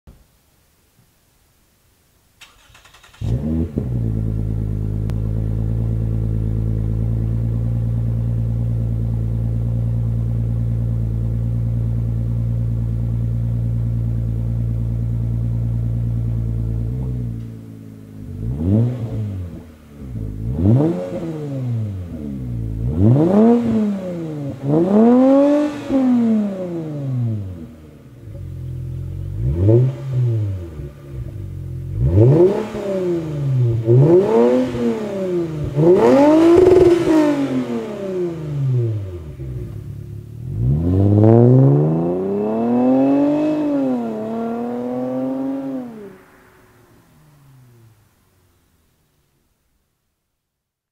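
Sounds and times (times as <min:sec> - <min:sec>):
engine throttle blips: 0:02.4 - 0:48.2
car engine starting and idling: 0:02.4 - 0:49.6.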